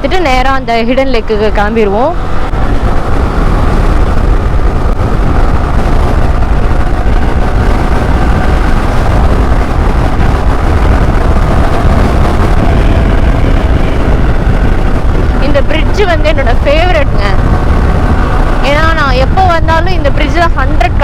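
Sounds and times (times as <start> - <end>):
motorcycle engine: 0.0 - 21.0
wind rumble: 0.0 - 21.0.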